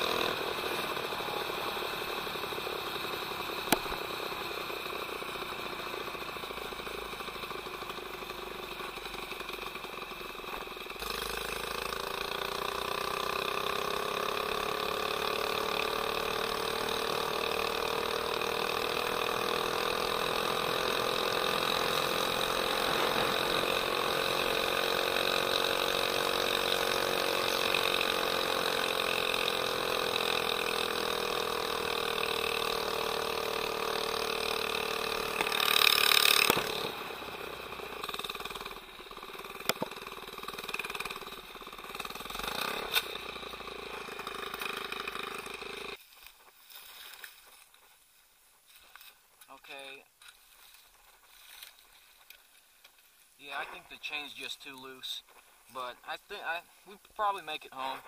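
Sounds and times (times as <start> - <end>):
small engine running: 0.0 - 47.6.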